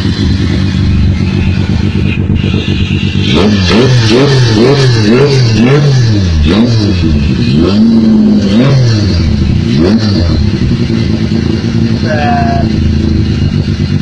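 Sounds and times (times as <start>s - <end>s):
motorcycle engine idling: 0.0s - 14.0s
motorcycle engine revving: 0.0s - 14.0s.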